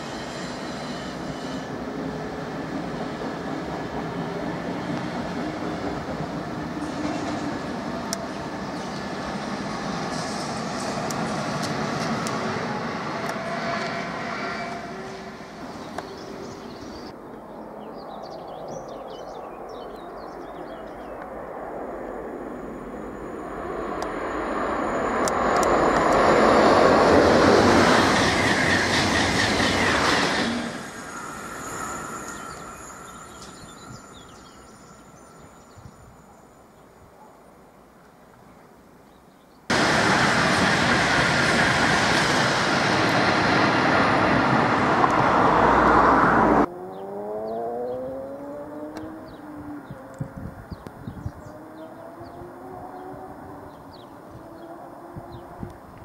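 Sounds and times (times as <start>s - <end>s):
high-speed train passing: 0.0s - 36.9s, 39.7s - 56.0s
another train running past: 0.0s - 37.1s, 39.7s - 56.0s.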